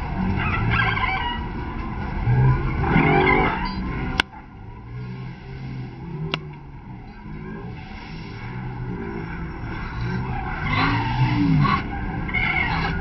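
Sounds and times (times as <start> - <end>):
road traffic passing: 0.0 - 13.0
vehicle passing by: 0.0 - 13.0.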